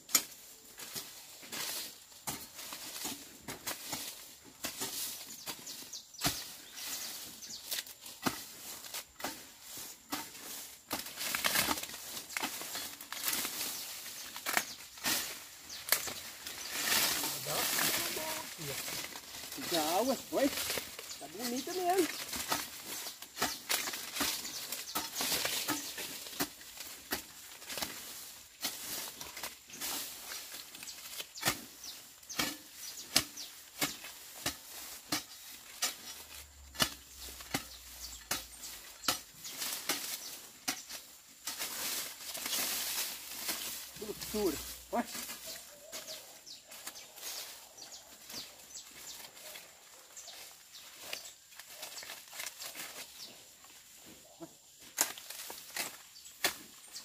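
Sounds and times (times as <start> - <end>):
hoe chopping and scraping soil: 0.0 - 57.0.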